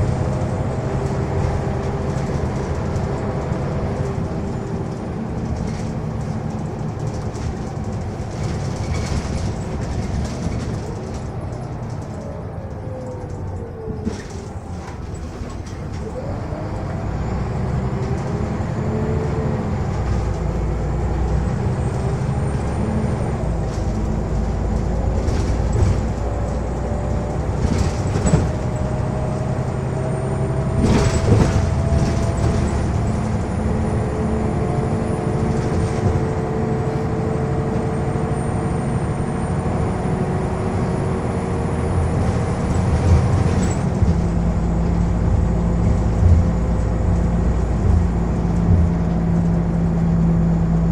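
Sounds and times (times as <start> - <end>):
bus diesel engine running: 0.0 - 50.9.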